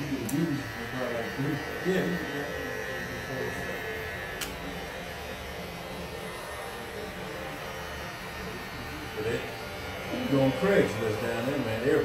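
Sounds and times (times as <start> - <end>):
electric hair clippers: 0.0 - 12.0.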